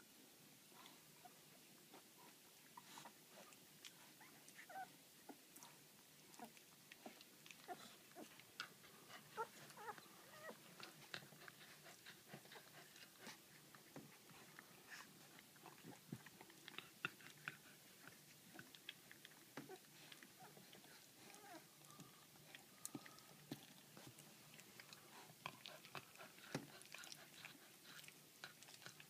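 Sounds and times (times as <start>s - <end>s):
puppies suckling: 0.8s - 29.0s.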